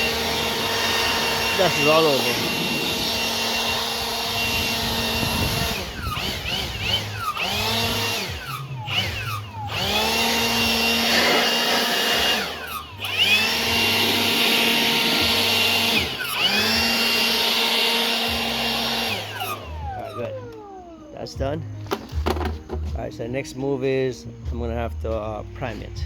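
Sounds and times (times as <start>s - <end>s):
electric blower motor whine: 0.0s - 23.0s.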